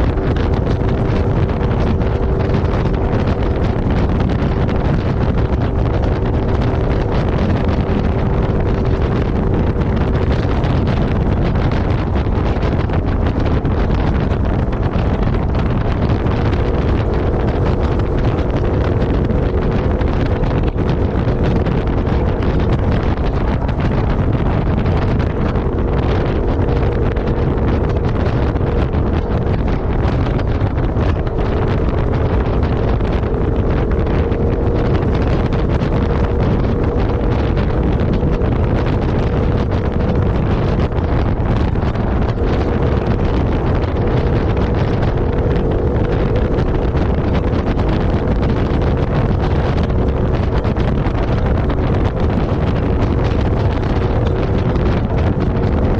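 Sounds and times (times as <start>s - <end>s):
constant hum: 0.0s - 55.9s
vehicle driving rumble: 0.0s - 55.9s
wind buffeting microphone: 0.0s - 55.9s.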